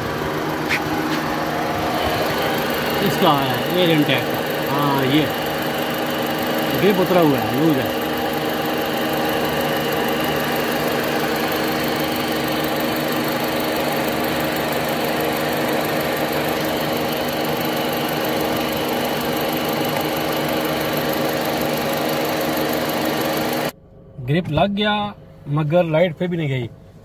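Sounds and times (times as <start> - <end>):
car engine idling: 0.0 - 24.2.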